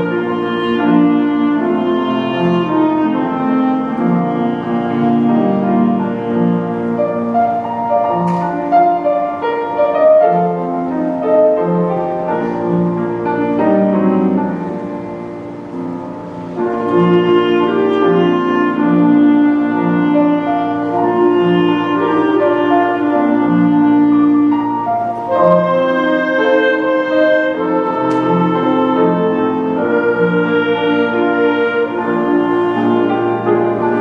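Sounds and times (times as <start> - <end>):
orchestra with piano: 0.0 - 34.0.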